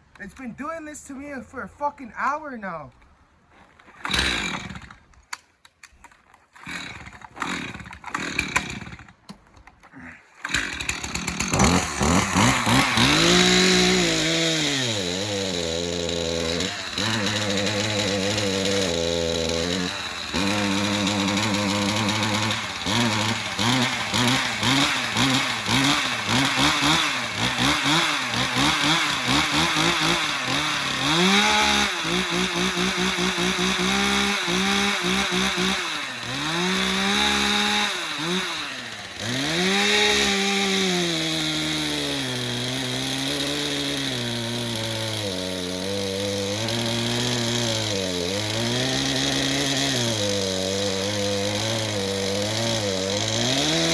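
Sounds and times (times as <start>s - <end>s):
chainsaw engine revving: 3.8s - 5.4s, 6.6s - 9.2s, 9.9s - 53.9s.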